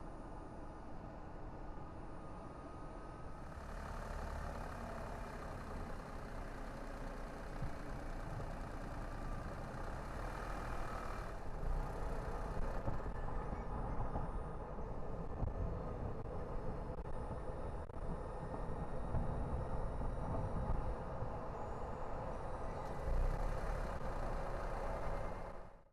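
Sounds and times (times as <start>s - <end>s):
car road noise rumble: 0.0s - 25.9s.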